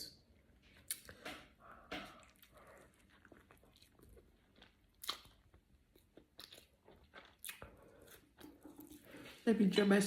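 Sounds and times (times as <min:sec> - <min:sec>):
chewing and crunching food: 0:00.4 - 0:09.9.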